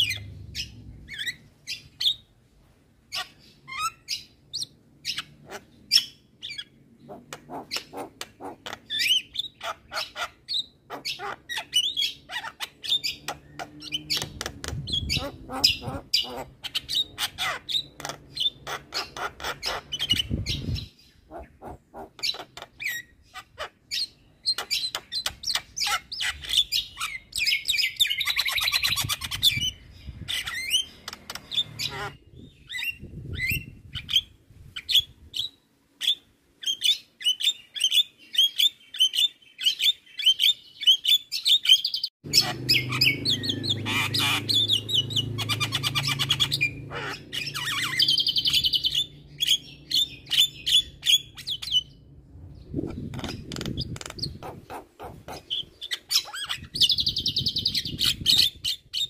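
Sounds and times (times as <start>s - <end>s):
bird chattering and whistling: 3.1s - 52.0s, 52.6s - 59.0s.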